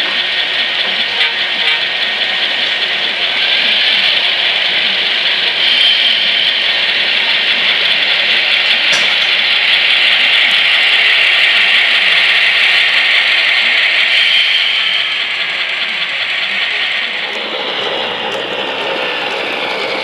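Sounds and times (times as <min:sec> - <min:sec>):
tinny diesel engine sound: 0:00.0 - 0:20.0.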